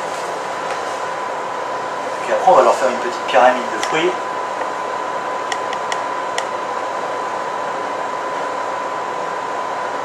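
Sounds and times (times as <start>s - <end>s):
fan-like hiss: 0.0s - 10.0s.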